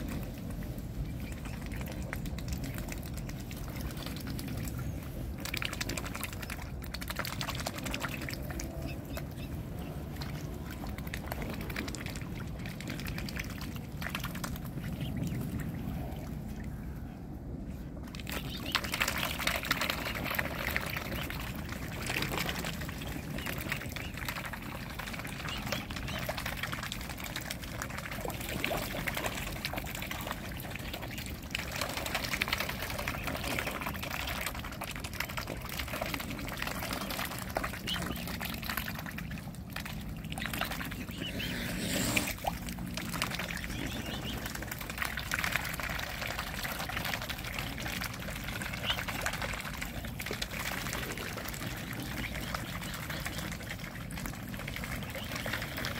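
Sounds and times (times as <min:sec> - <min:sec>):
birds splashing and feeding in water: 0:00.0 - 0:55.9.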